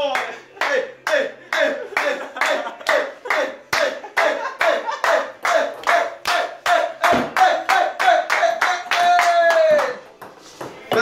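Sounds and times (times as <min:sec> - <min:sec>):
group clapping in rhythm: 0:00.0 - 0:10.0.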